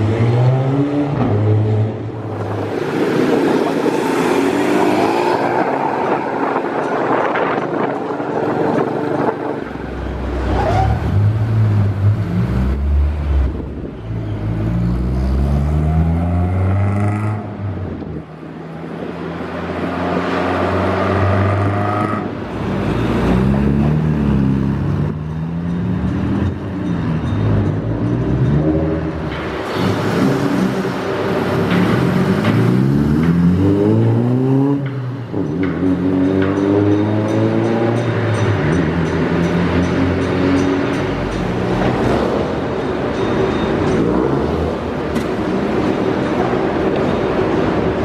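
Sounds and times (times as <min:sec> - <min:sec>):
car engines accelerating: 0:00.0 - 0:26.8, 0:27.5 - 0:48.0.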